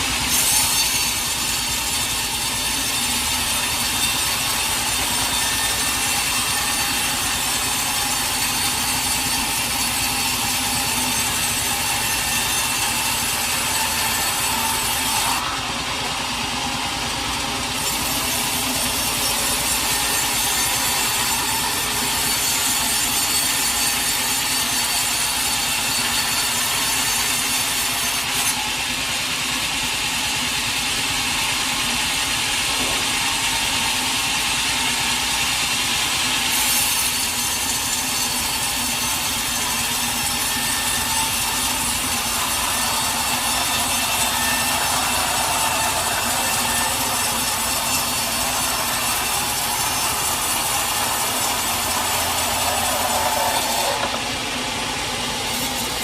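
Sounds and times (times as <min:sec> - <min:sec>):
sawmill saw cutting log: 0:00.0 - 0:56.0.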